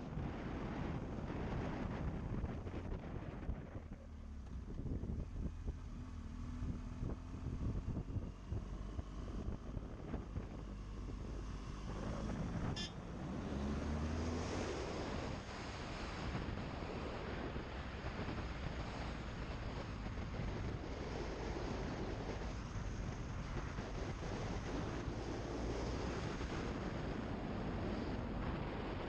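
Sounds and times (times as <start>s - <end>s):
motorcycle engine hum: 0.0s - 29.0s
wind rushing over microphone: 0.0s - 29.0s.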